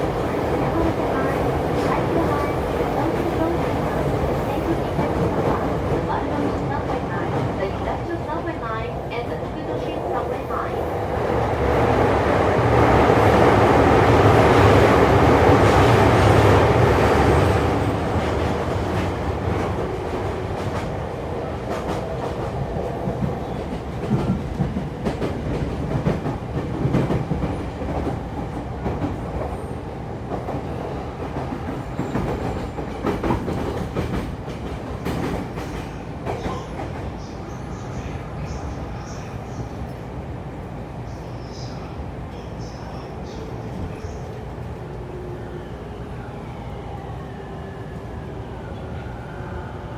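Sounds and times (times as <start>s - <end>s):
electric train rumbling on rails: 0.0s - 49.9s.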